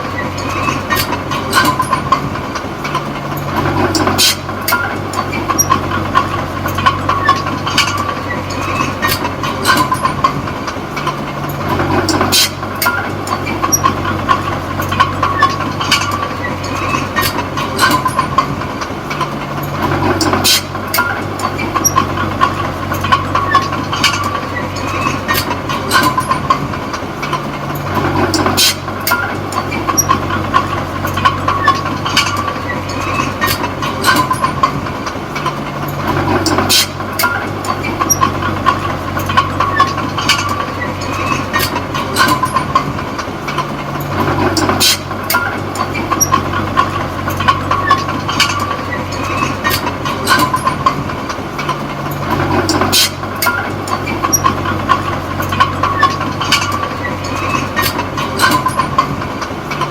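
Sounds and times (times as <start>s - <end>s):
bulldozer diesel engine: 0.0s - 59.9s
metallic clanks from running gear: 0.0s - 59.9s.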